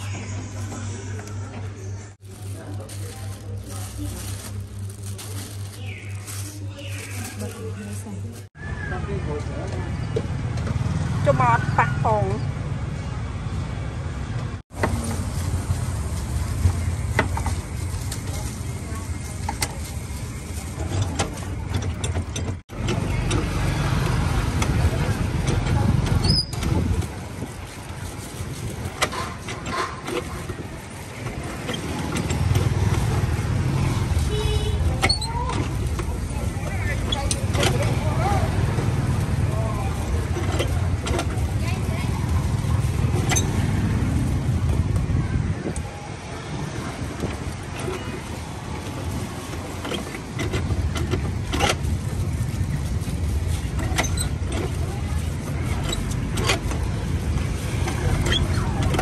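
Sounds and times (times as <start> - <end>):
motorbike engines rumbling: 0.0 - 59.0.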